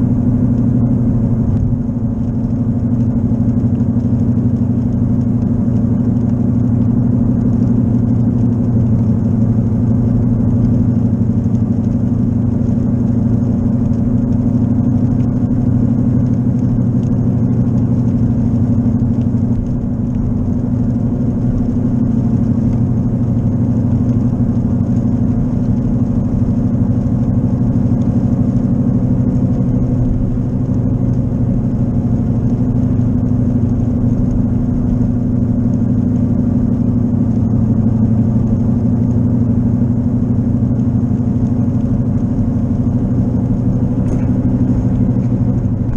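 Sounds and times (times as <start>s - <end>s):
road noise: 0.0s - 45.9s
wheel bearing drone: 0.0s - 45.9s.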